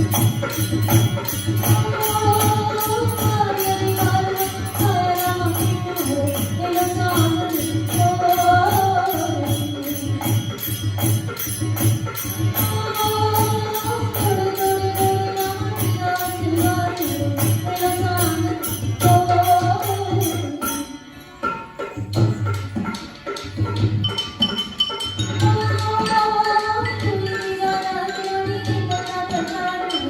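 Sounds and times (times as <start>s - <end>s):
jingling percussion: 0.0s - 30.0s.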